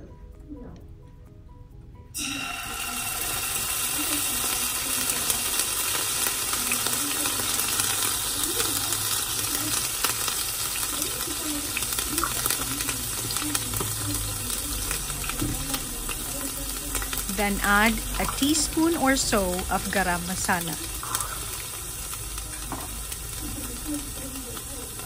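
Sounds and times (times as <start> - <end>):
garlic sizzling in hot oil: 2.2 - 25.0.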